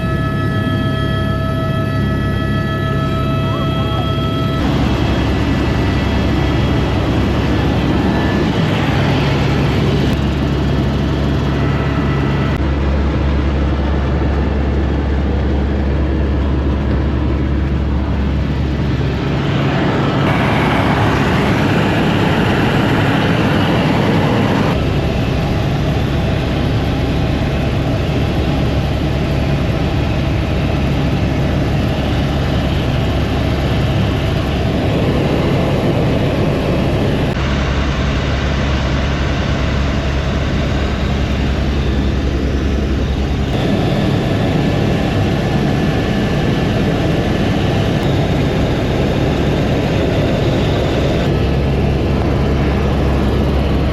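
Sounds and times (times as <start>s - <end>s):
helicopter rotor and engine drone: 0.0s - 53.9s.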